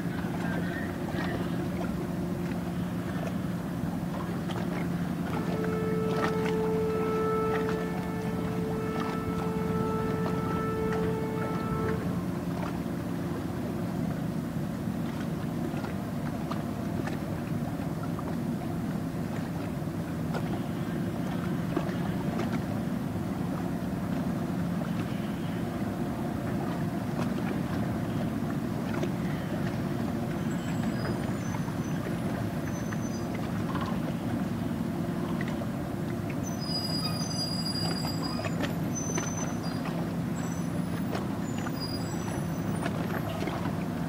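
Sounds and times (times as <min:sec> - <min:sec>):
boat engine drone: 0:00.0 - 0:44.0.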